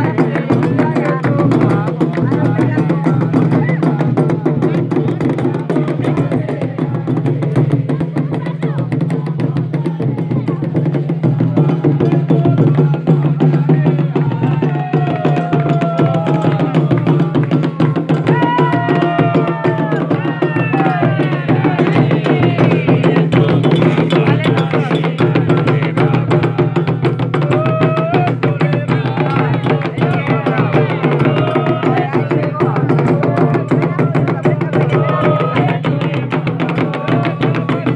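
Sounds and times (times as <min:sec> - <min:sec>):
hand drums playing fast rhythm: 0:00.0 - 0:37.9
sharp knocking percussion: 0:00.0 - 0:37.9
voices singing a chant: 0:00.0 - 0:37.9.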